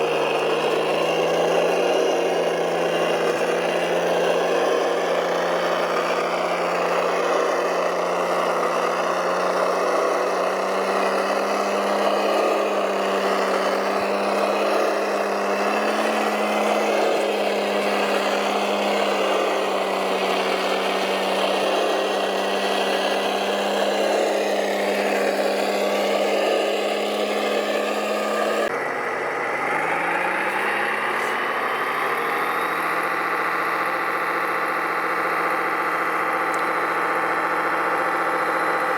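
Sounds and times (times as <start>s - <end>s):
model machine engine drone: 0.0s - 38.9s.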